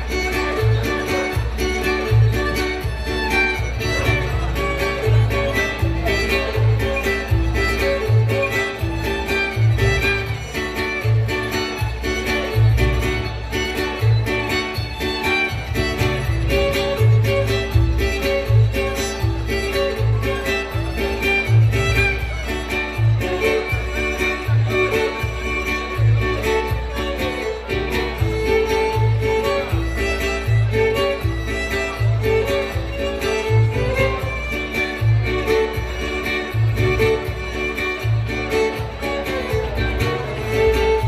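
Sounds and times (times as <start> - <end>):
guitar: 0.0 - 41.0
violin playing a tune: 0.0 - 41.0.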